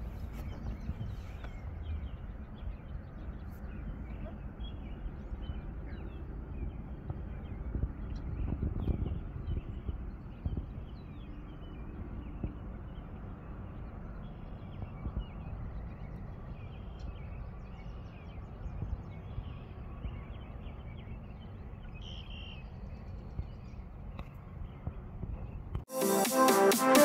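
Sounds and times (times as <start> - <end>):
steady low rumbling: 0.0 - 25.9
birds chirping: 0.0 - 27.0.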